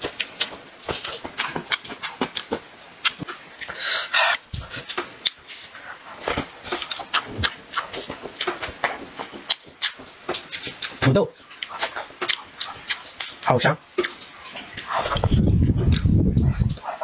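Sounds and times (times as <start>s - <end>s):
wet chewing and lip-smacking: 0.0s - 17.0s.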